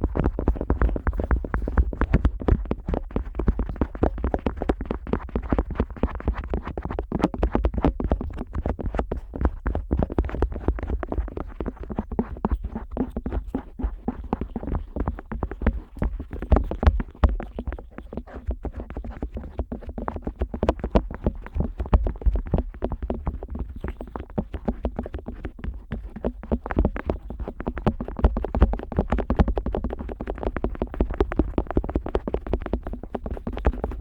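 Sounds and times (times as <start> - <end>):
otoscope rubbing and tapping on ear: 0.1 - 34.0.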